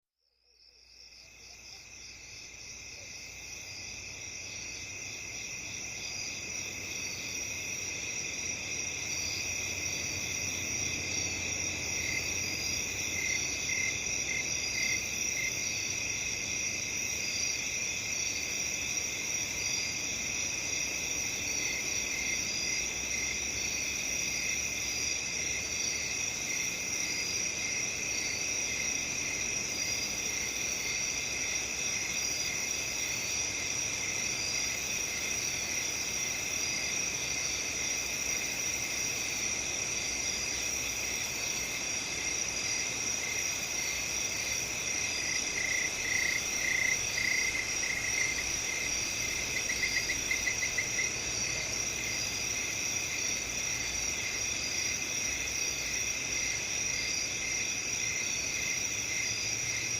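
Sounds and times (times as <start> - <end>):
crickets chirping: 0.2 - 59.9.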